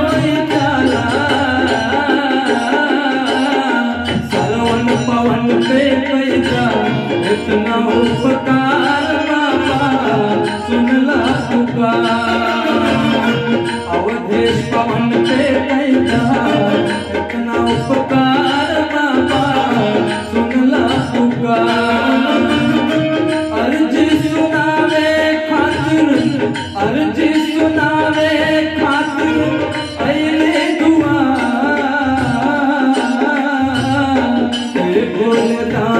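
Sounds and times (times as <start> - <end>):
harmonium melody: 0.0 - 35.9
tabla rhythm loop: 0.0 - 35.9.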